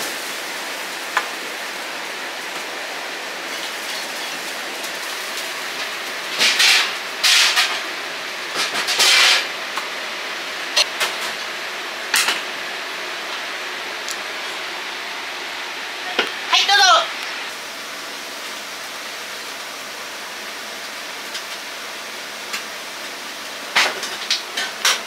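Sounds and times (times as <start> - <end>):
burners and extractor rushing: 0.0 - 25.0
sizzling in a hot wok: 0.0 - 25.0.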